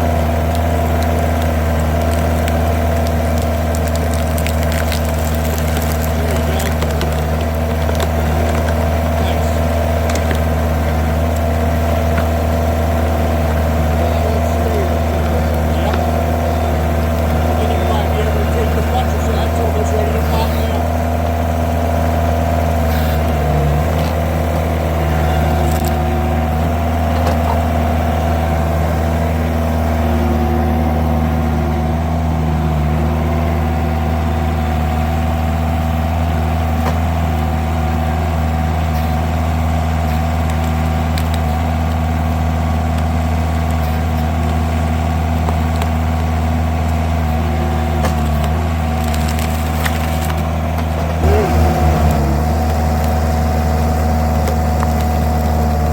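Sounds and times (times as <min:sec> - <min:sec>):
skid steer engine running: 0:00.0 - 0:55.9
wood cracking and splintering: 0:00.0 - 0:55.9.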